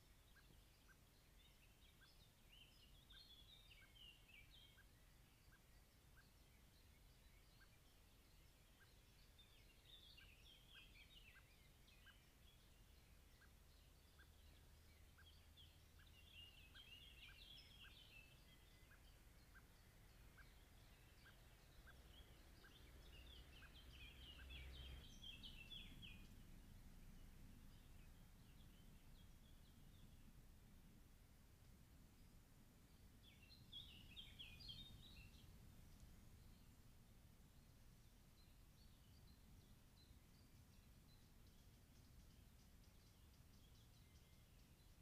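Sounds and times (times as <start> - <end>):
faint birdsong: 0.0 - 45.0.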